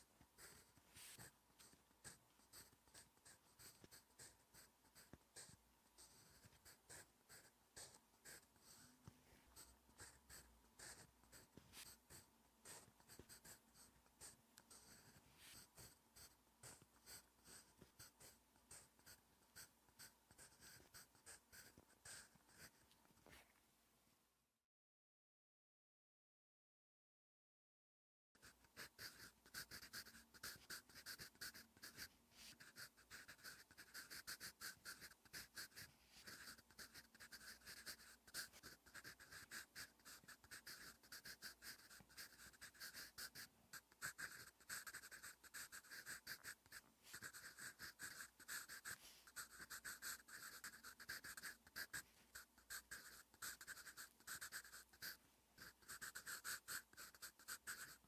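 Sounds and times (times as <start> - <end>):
pencil scratching on paper: 0.0 - 23.5, 28.4 - 58.0.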